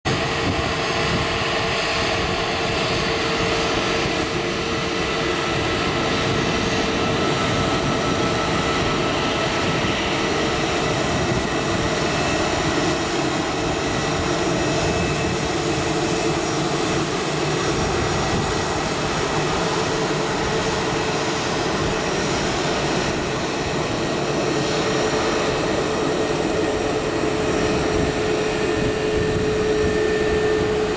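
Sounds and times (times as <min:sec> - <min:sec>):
jet engines running: 0:00.1 - 0:30.9.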